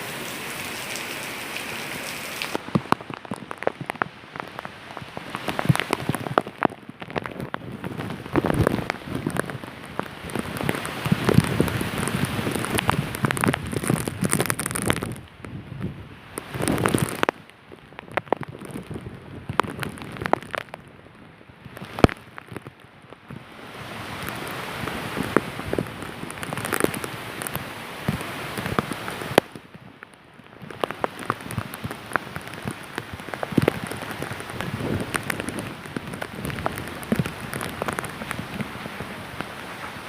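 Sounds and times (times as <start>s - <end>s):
gusting wind: 0.0s - 40.0s
heavy rain: 0.0s - 40.0s
raindrops ticking on surfaces: 0.0s - 40.0s.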